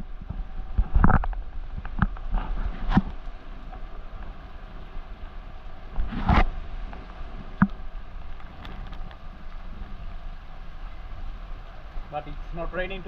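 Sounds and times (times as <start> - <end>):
rain falling on boat and sea: 0.0 - 13.0.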